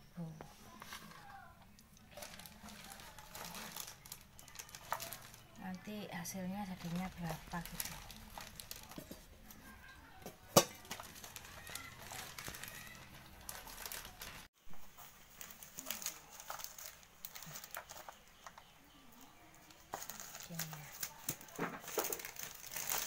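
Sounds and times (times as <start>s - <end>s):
plastic sheet rustling: 0.6s - 9.9s, 10.5s - 18.6s, 19.3s - 23.0s.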